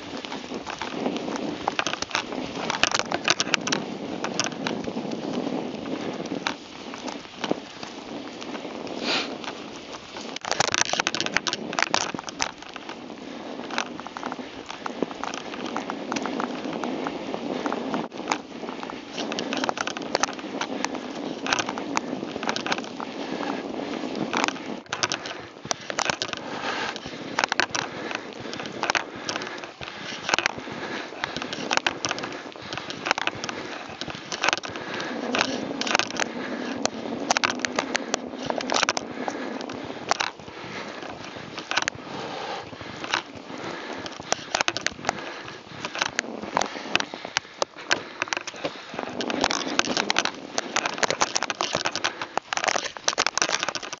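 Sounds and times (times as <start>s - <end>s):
bike rattling: 0.0s - 54.0s
bike tyres crunching snow: 0.0s - 54.0s.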